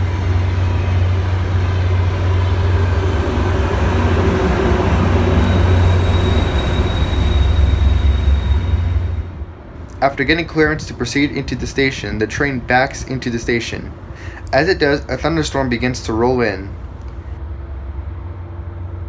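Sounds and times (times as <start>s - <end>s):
high-pitched squeal: 0.0s - 15.8s
diesel train rumbling: 0.0s - 19.0s.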